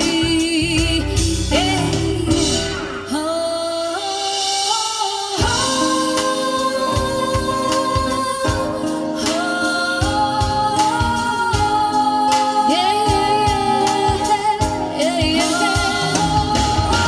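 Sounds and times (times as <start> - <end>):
drum beat: 0.0 - 3.0, 5.4 - 17.0
soul song over car speakers: 0.0 - 17.0.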